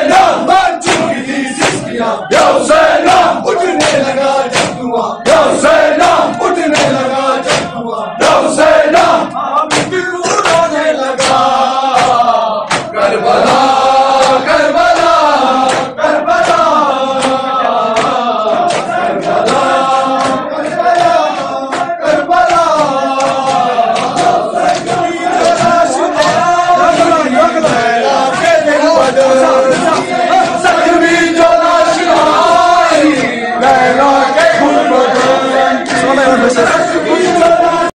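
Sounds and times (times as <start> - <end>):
men chanting in unison: 0.0 - 37.9
hands slapping chests: 0.1 - 37.5.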